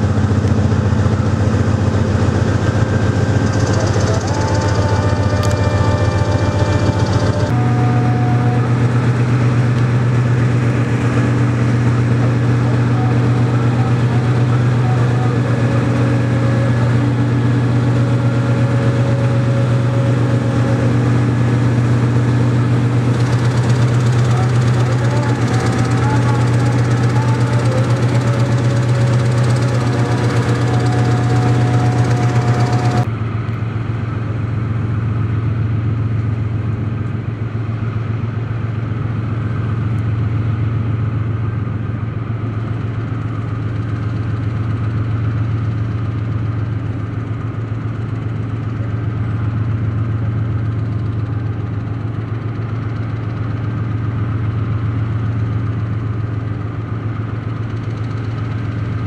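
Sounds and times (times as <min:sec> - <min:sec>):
locomotive engines idling: 0:00.0 - 0:59.0.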